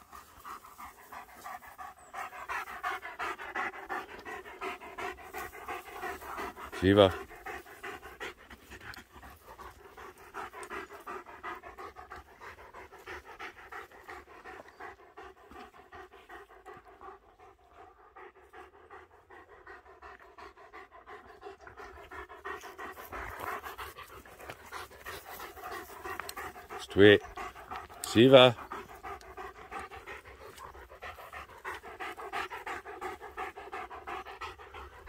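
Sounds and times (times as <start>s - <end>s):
dog panting quickly: 0.0s - 35.0s.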